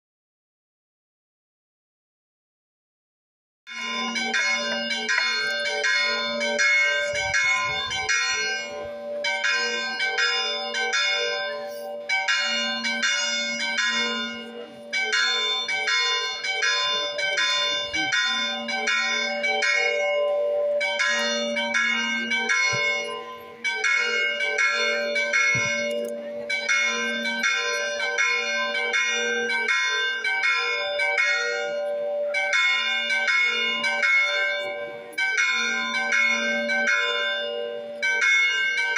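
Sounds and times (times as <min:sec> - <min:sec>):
church bells ringing: 0:03.7 - 0:38.9.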